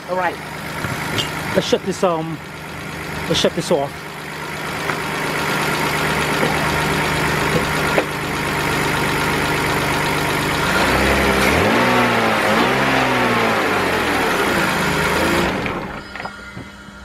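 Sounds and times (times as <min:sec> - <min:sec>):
car engine idling and revving: 0:00.0 - 0:16.2.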